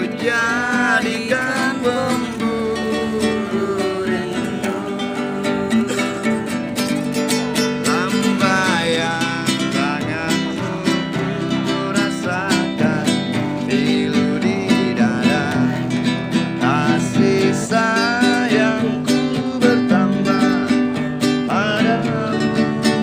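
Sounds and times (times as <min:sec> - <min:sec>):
classical guitar strumming: 0:00.0 - 0:23.0
man singing: 0:00.0 - 0:23.0.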